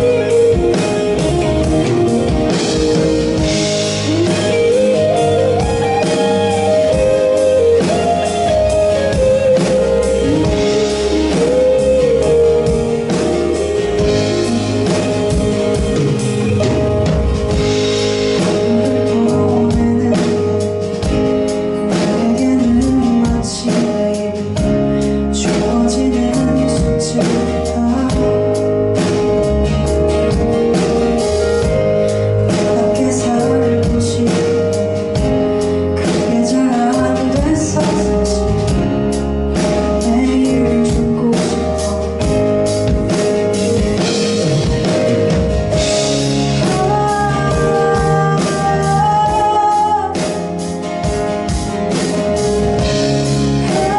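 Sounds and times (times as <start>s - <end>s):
person singing: 0.0s - 17.7s, 18.3s - 30.0s, 31.2s - 53.9s
drum kit: 0.0s - 53.9s
guitar: 0.0s - 53.9s.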